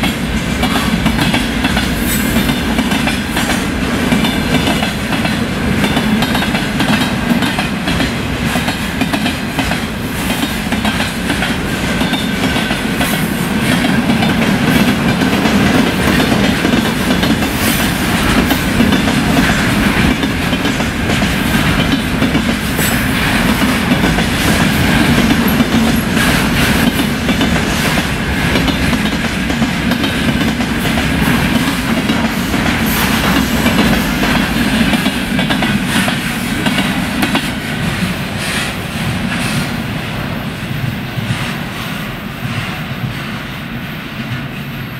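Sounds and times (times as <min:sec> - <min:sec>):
wheels clacking over rail joints: 0:00.0 - 0:39.8
steel wheels on rails: 0:00.0 - 0:44.9.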